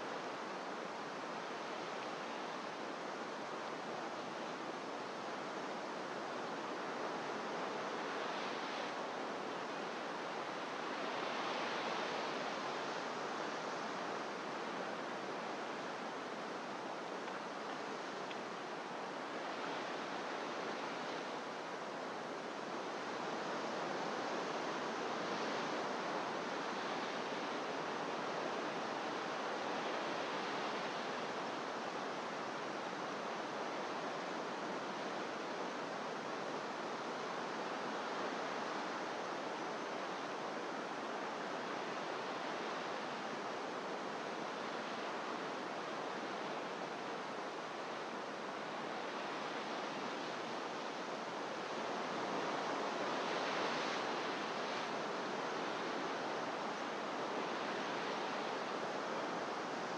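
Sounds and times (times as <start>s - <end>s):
ocean surf on rocks: 0.0s - 59.9s.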